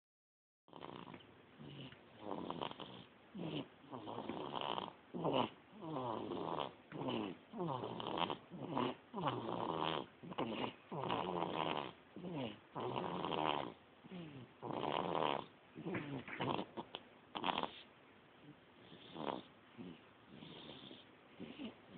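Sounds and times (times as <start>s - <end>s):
baby snoring: 0.7s - 17.9s, 18.8s - 21.9s.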